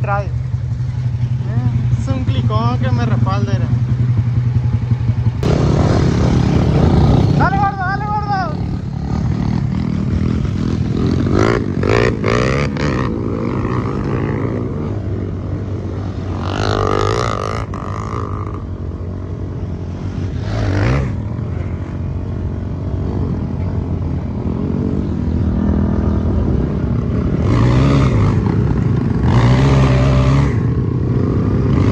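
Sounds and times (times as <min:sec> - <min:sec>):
motorcycle engines running: 0:00.0 - 0:31.9.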